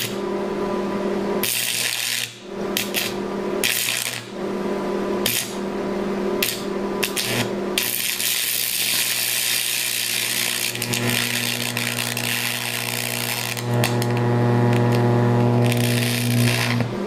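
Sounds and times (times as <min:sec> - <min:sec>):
welding arc crackling: 0:00.0 - 0:00.2, 0:01.4 - 0:04.3, 0:05.2 - 0:05.6, 0:06.4 - 0:17.0
electrical hum: 0:00.0 - 0:17.0.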